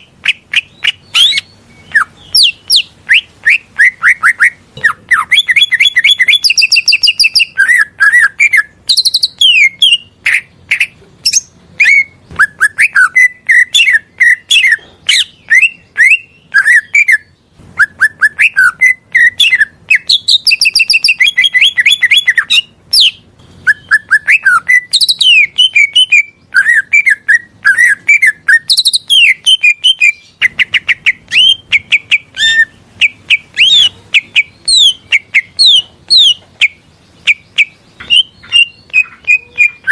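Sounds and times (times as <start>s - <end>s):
songbird chirps and whistles: 0.0s - 39.9s.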